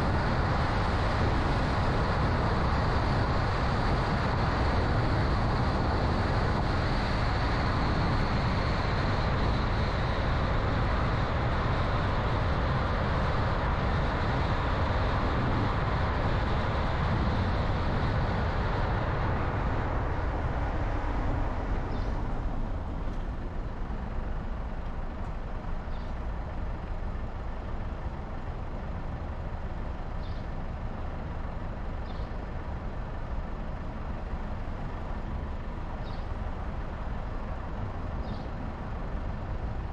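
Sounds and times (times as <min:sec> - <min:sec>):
car engine hum: 0:00.0 - 0:39.9
road and tyre noise: 0:00.0 - 0:39.9.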